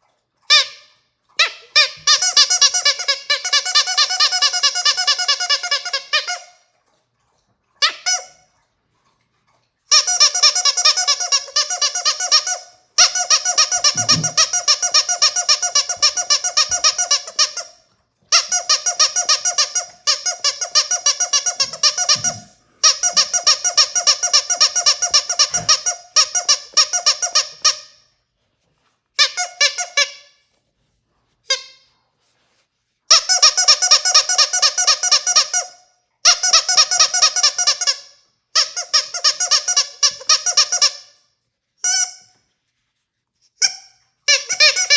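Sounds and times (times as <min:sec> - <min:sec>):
squeaky dog toy squeaking: 0:00.5 - 0:06.7, 0:07.8 - 0:08.5, 0:09.9 - 0:28.1, 0:29.2 - 0:30.5, 0:31.5 - 0:31.9, 0:33.1 - 0:41.2, 0:41.8 - 0:42.4, 0:43.5 - 0:44.9.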